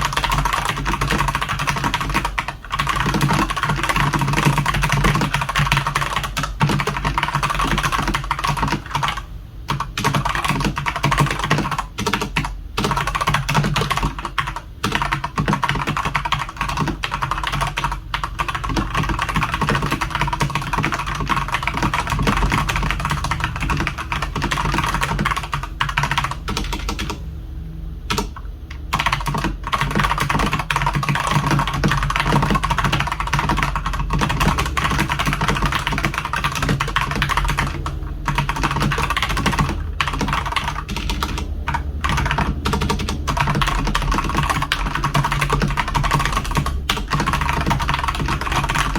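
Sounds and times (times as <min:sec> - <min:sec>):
mechanical keyboard typing: 0:00.0 - 0:27.2, 0:28.1 - 0:48.9.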